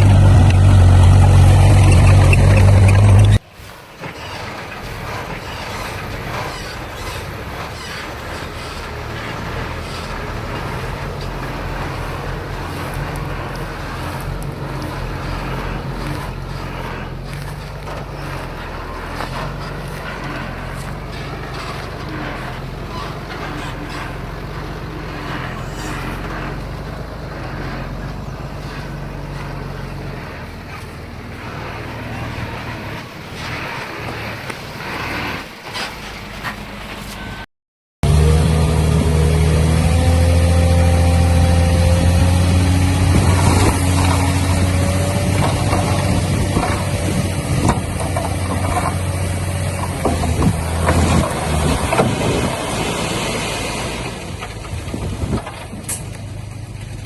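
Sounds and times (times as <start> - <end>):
knocks and clatter: 0.0 - 37.4, 38.8 - 57.0
rattling noise: 0.0 - 37.4, 38.0 - 57.0
bulldozer diesel engine droning: 0.0 - 57.0.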